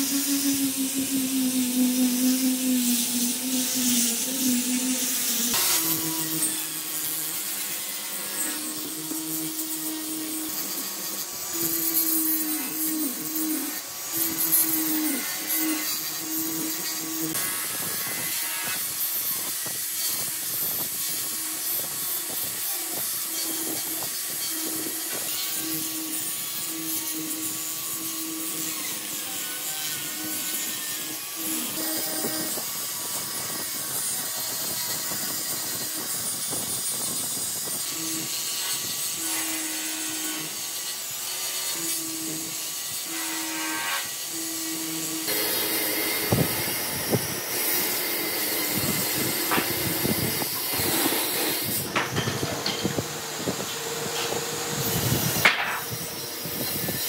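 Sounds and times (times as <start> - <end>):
angle grinder sanding wood: 0.0 - 57.0.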